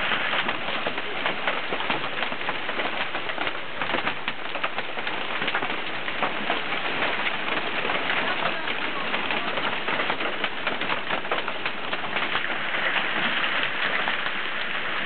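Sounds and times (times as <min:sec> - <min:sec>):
hailstones clattering: 0:00.0 - 0:15.0
rain-like hiss: 0:00.0 - 0:15.0.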